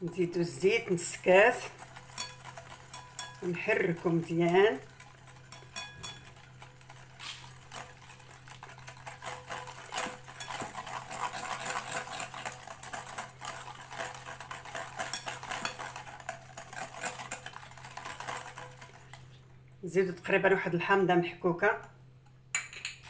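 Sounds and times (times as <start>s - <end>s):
utensil stirring in a bowl: 0.0s - 22.7s.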